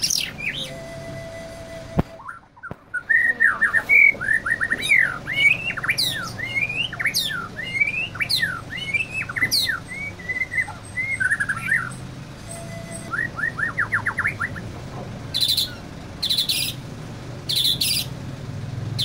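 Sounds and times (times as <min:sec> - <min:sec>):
bird singing whistles and trills: 0:00.0 - 0:14.7, 0:15.3 - 0:16.8, 0:17.5 - 0:18.2.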